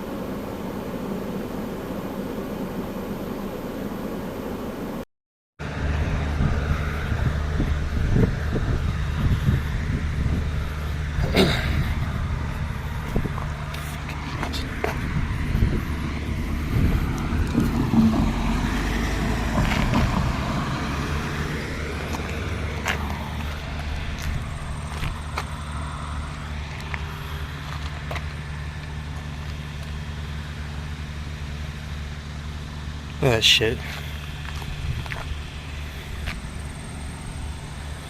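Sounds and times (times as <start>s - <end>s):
car engine and road hum: 0.0s - 5.0s, 5.6s - 38.0s.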